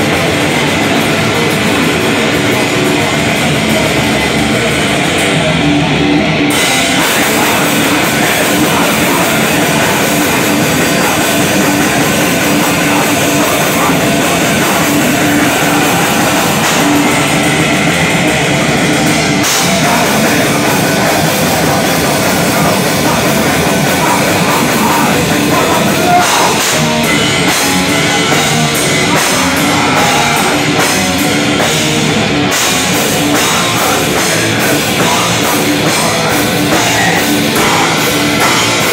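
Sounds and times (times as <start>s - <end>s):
distorted electric guitar: 0.0s - 38.9s
drum kit: 0.0s - 38.9s.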